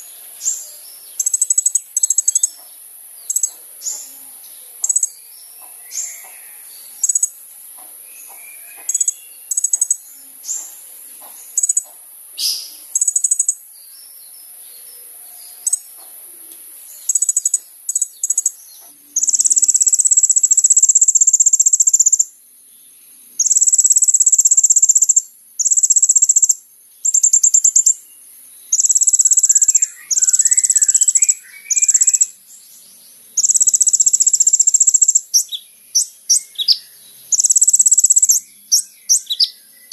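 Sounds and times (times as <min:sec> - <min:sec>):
buzzy bird trills: 0:00.0 - 0:02.6, 0:03.2 - 0:07.4, 0:08.2 - 0:10.8, 0:11.4 - 0:13.6, 0:15.3 - 0:22.3, 0:23.4 - 0:28.0, 0:28.7 - 0:32.3, 0:33.4 - 0:39.9
steady high hiss: 0:00.0 - 0:39.9
sunbird chirping: 0:00.0 - 0:39.9.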